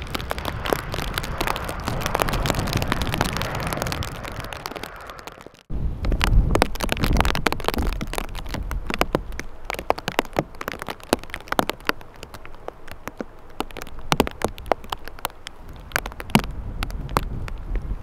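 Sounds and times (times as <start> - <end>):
raindrops ticking on microphone: 0.0 - 18.0
wind buffeting microphone: 0.0 - 18.0.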